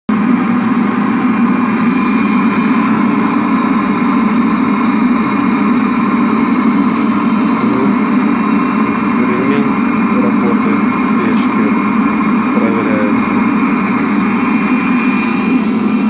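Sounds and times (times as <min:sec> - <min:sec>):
diesel heater humming: 0:00.1 - 0:16.0.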